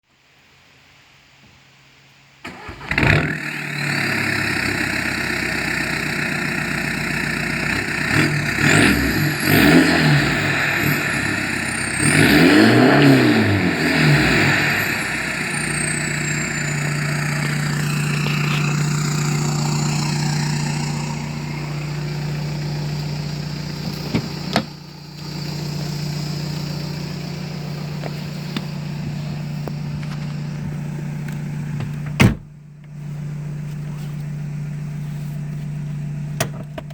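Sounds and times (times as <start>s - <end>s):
diesel engine starting and idling: 2.4s - 36.9s
engine revving: 2.5s - 32.0s.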